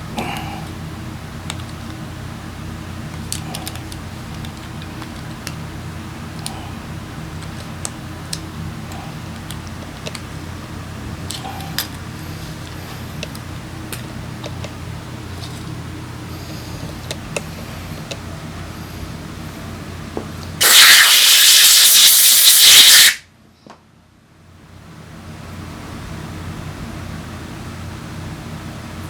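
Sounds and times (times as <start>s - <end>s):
low mechanical hum: 0.0s - 20.7s, 23.2s - 29.0s.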